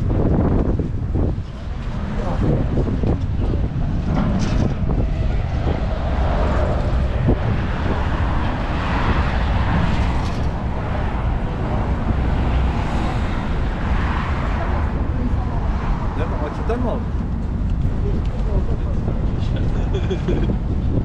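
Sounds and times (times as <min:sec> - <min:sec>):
city traffic rumbling: 0:00.0 - 0:21.0.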